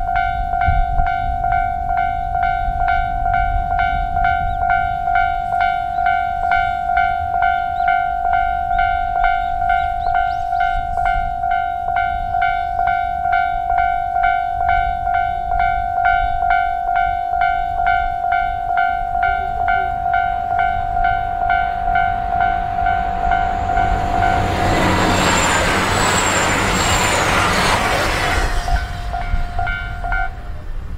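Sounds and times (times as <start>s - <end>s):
diesel train rushing past: 0.0s - 30.9s
level crossing bell ringing: 1.2s - 27.7s, 29.0s - 30.6s.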